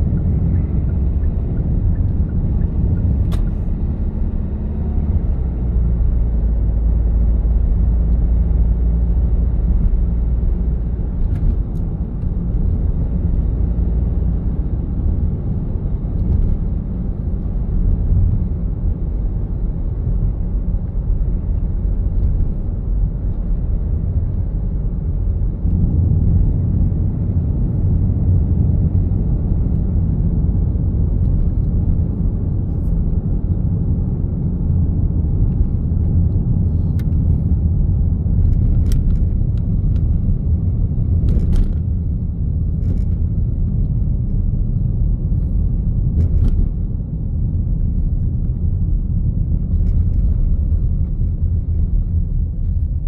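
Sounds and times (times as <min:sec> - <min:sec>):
car engine rumble: 0:00.0 - 0:53.0
tyre road noise: 0:00.0 - 0:53.0.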